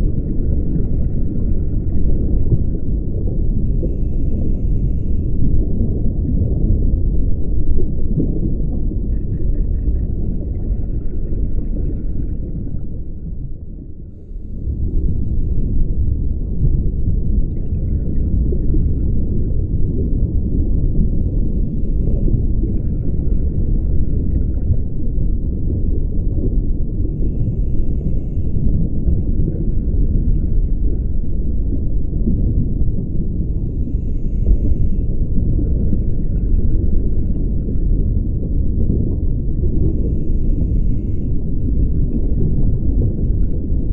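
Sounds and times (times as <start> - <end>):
exhaled bubbles bubbling: 0.0 - 43.9
low underwater rumble: 0.0 - 43.9.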